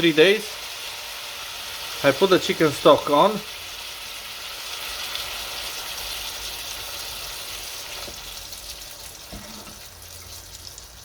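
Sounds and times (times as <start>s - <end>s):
stovetop cooking hiss: 0.0s - 11.0s.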